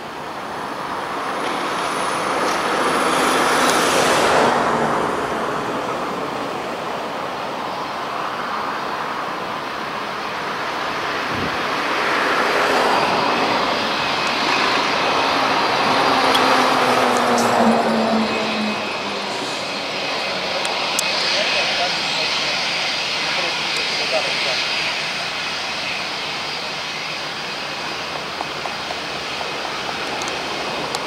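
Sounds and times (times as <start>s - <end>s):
jet engines at taxi thrust: 0.0s - 31.0s.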